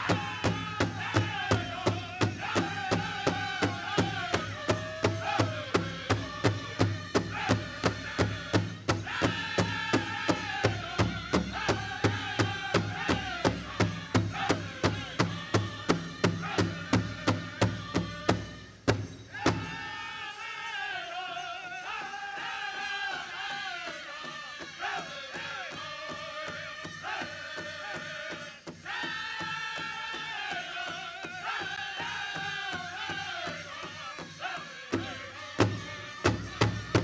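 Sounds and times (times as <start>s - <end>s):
powwow drum beating: 0.0s - 20.1s, 21.9s - 37.0s
group singing: 0.0s - 37.0s.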